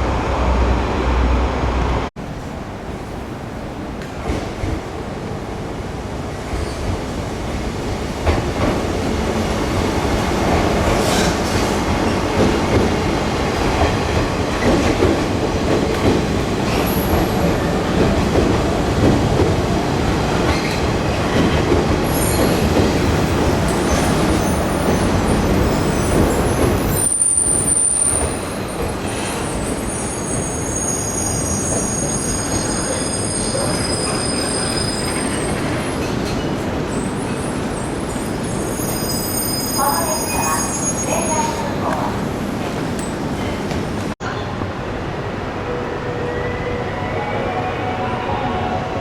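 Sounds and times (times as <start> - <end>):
train rumbling on rails: 0.0 - 49.0.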